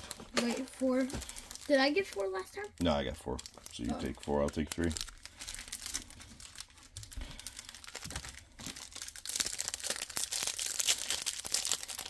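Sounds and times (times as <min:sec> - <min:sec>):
foil wrappers tearing and crinkling: 0:00.0 - 0:02.7, 0:03.3 - 0:12.0.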